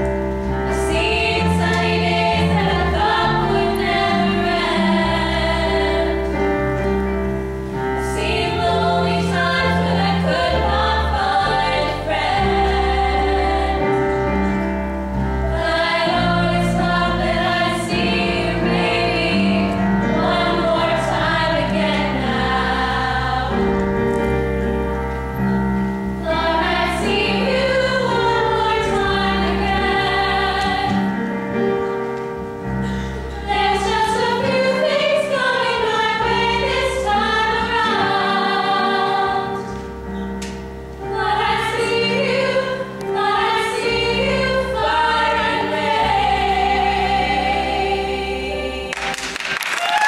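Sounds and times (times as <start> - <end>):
sustained accompaniment chords: 0.0 - 49.2
group singing in harmony: 0.5 - 24.8, 25.5 - 31.8, 32.8 - 50.0.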